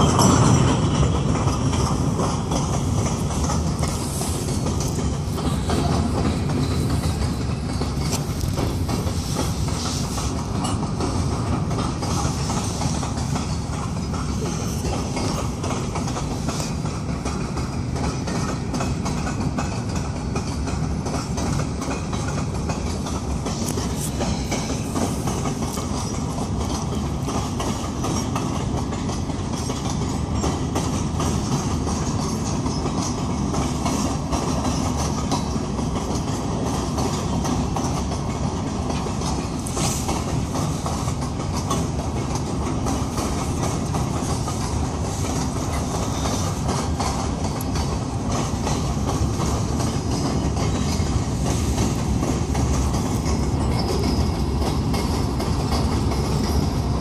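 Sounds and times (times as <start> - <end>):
steel wheels rolling on rail: 0.0 - 57.0
wheels clacking over rail joints: 0.0 - 57.0.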